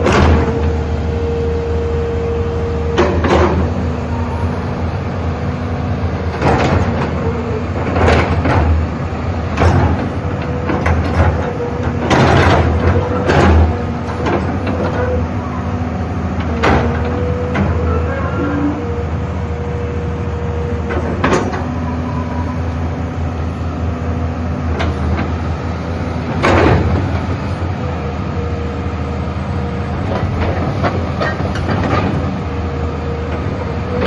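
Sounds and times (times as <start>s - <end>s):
excavator engine drone: 0.0s - 34.0s.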